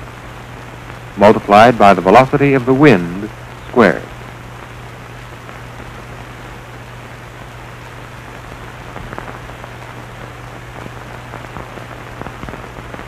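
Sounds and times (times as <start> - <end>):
film soundtrack hiss and hum: 0.0 - 13.0
faint clicks and crackles: 0.1 - 1.2, 3.2 - 13.0.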